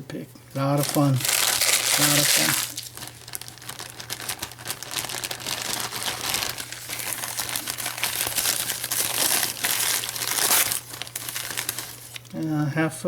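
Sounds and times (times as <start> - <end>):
packaging crinkling: 0.5 - 12.4.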